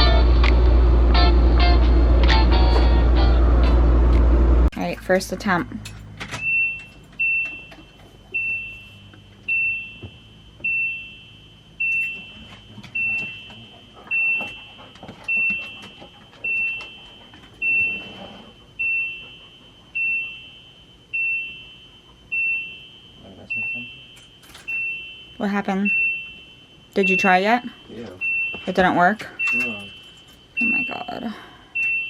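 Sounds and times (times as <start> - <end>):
dashboard warning chime beeping: 4.8 - 32.0.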